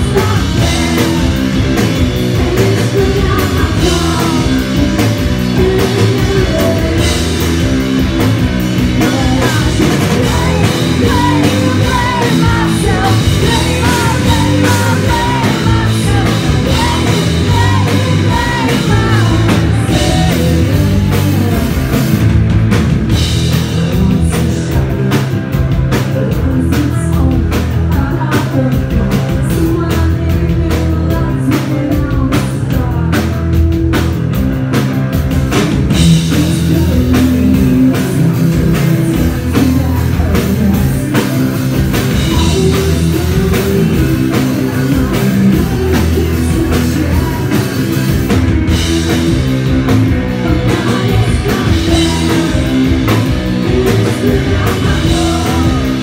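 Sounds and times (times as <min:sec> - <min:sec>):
person singing: 0:00.0 - 0:22.2, 0:23.5 - 0:33.6, 0:35.9 - 0:56.0
drum kit: 0:00.0 - 0:56.0
electric guitar: 0:00.0 - 0:56.0.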